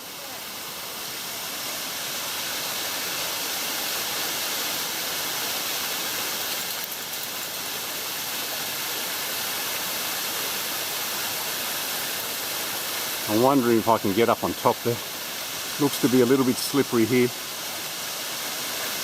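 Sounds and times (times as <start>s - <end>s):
waterfall pouring into pool: 0.0s - 19.0s.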